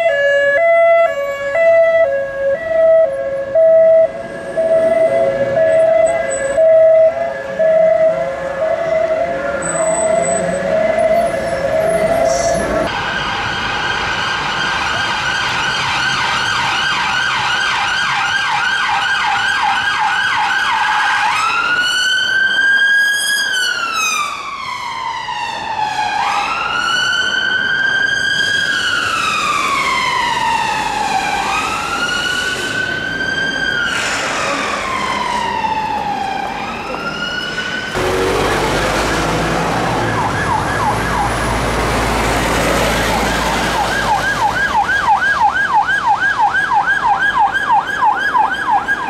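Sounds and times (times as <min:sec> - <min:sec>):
emergency vehicle siren: 0:00.0 - 0:49.0.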